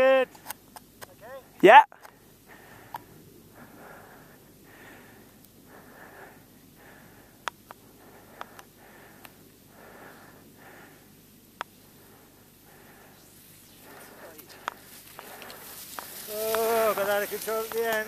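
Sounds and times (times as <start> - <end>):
person breathing: 2.2 - 18.0.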